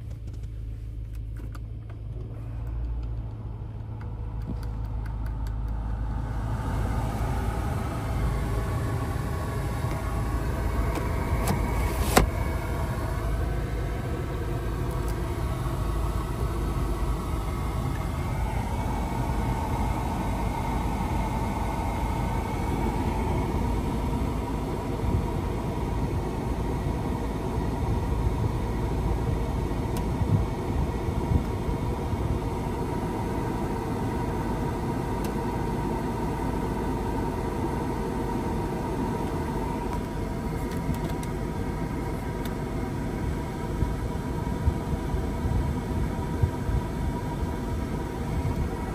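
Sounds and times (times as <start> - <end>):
car engine idling: 0.0 - 48.9
faint steady hum: 0.0 - 48.9.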